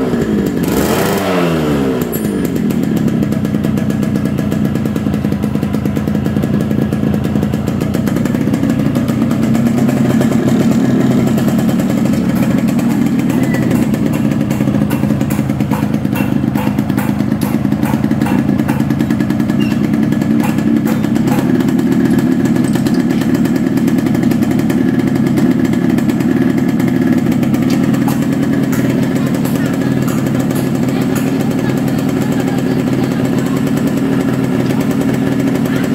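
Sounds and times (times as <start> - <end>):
two-stroke engine running: 0.0 - 35.9.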